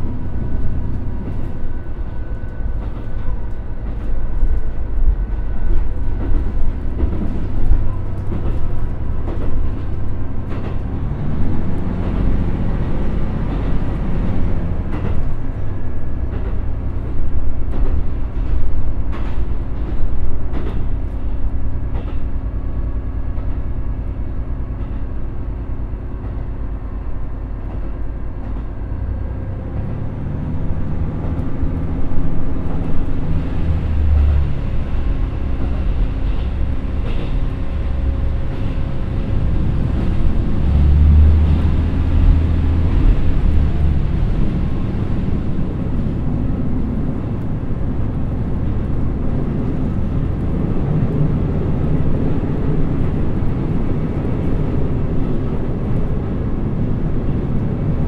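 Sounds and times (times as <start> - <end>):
diesel engine droning: 0.0 - 19.3, 20.6 - 58.0.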